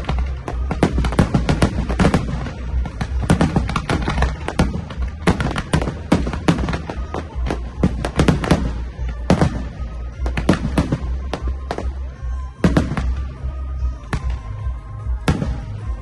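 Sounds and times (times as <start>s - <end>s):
fireworks bursting: 0.0s - 16.0s
music playing: 0.0s - 16.0s.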